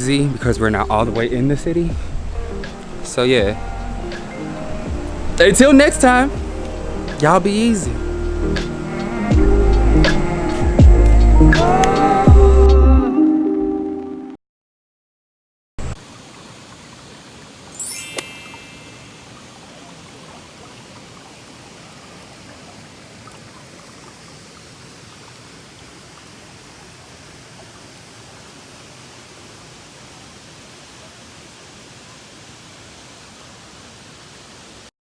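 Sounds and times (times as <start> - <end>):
waterfall rushing: 0.0 - 10.8, 16.0 - 34.9.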